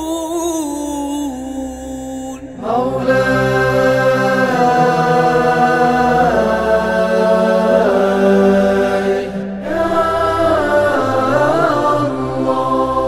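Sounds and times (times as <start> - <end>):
male chorus chanting: 2.4 - 13.0.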